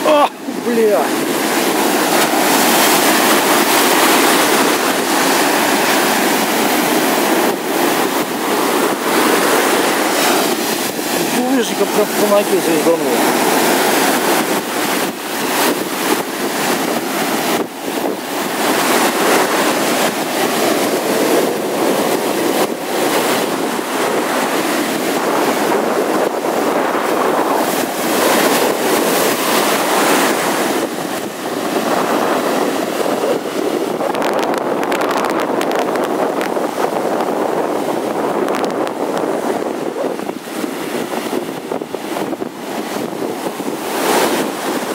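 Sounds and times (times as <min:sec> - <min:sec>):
surf breaking on sand: 0:00.0 - 0:44.9
wind buffeting microphone: 0:00.0 - 0:44.9.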